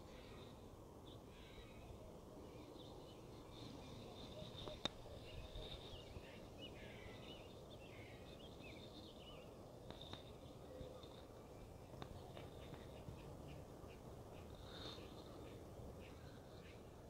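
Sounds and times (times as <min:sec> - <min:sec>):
birds chirping: 0:00.0 - 0:17.0
low background noise: 0:00.0 - 0:17.0.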